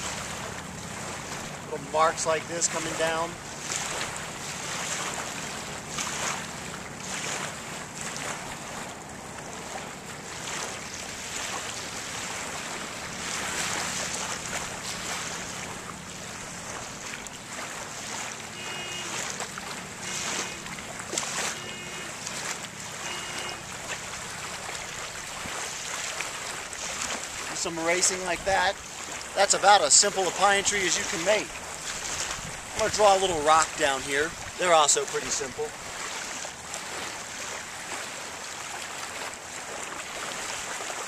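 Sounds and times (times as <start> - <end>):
wind and water rushing: 0.0 - 41.0.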